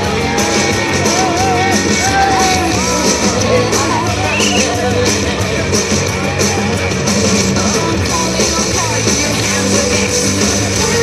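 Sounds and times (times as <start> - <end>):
loud rock music with guitar: 0.0 - 11.0.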